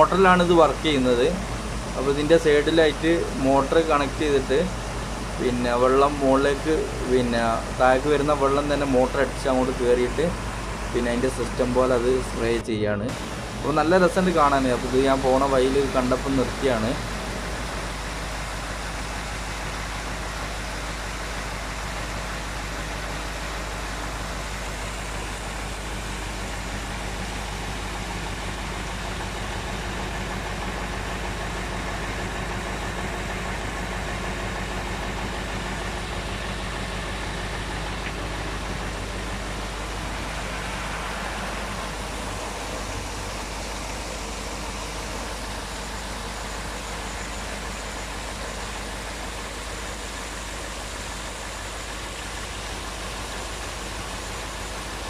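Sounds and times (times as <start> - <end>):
fountain water cascading: 0.0 - 55.0
low pump hum: 0.0 - 55.0.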